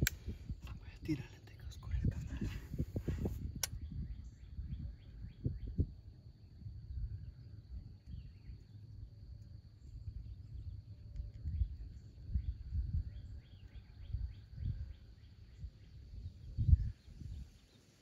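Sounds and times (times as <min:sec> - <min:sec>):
wind buffeting microphone: 0:00.0 - 0:08.8, 0:09.6 - 0:17.9
faint bird chirps: 0:00.6 - 0:18.0.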